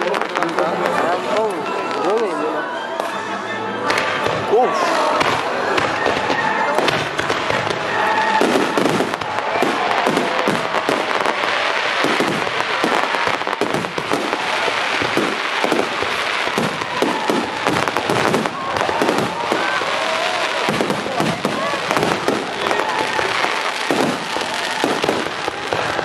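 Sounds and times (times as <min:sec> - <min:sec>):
fireworks bangs and crackles: 0:00.0 - 0:03.2, 0:03.8 - 0:26.0.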